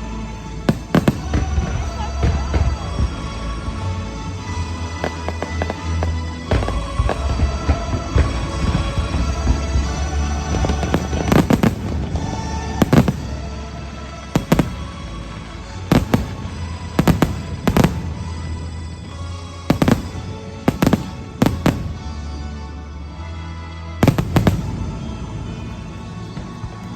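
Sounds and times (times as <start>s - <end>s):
show music: 0.0s - 26.9s
fireworks bangs: 0.4s - 3.8s, 4.6s - 22.4s, 24.0s - 26.9s.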